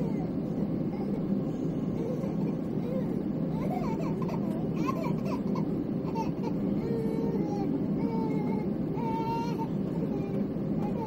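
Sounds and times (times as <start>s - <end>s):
airplane cabin rumble: 0.0s - 11.0s
baby crying: 2.0s - 11.0s.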